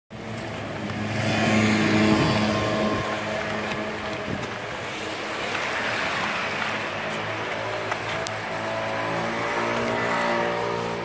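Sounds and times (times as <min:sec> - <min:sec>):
vehicle engine humming: 0:00.1 - 0:11.0.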